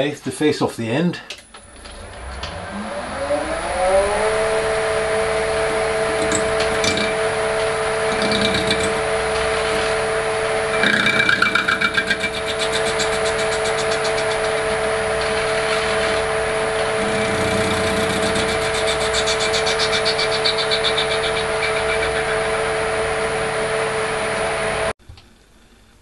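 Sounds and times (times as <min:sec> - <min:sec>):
metal lathe motor whine: 0:01.4 - 0:24.9
high chatter of cutting tool: 0:02.2 - 0:24.6.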